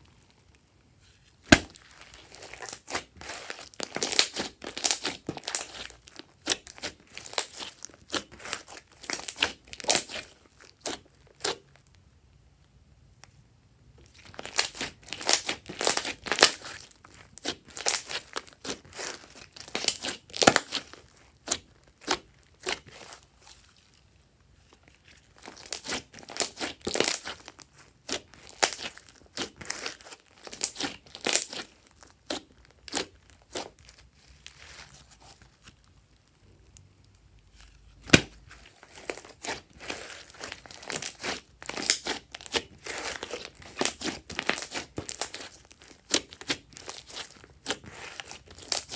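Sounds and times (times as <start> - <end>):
slime crackling and squelching: 0.0 - 12.0, 14.0 - 48.9.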